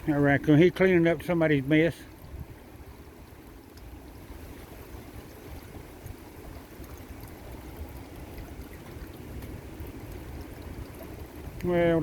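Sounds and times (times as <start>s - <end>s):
wind rumbling on microphone: 2.1s - 12.0s.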